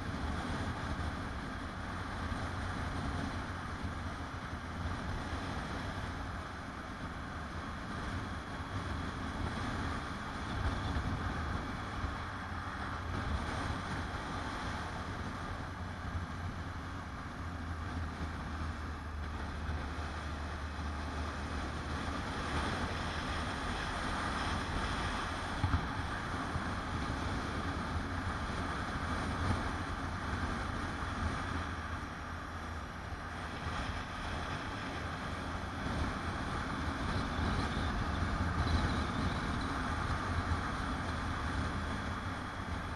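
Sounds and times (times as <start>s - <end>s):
motorcycle engine running: 0.0s - 42.9s
wind rushing over microphone: 0.0s - 42.9s.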